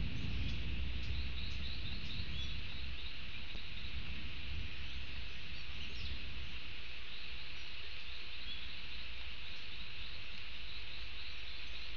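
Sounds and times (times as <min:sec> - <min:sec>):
constant hiss and low rumble: 0:00.0 - 0:11.9
faint bird chirps: 0:00.0 - 0:11.9.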